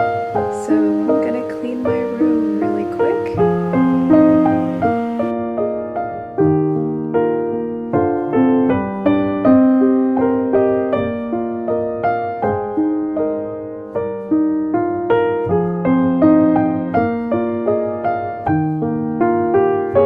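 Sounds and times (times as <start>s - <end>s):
soft solo piano melody: 0.0s - 20.0s.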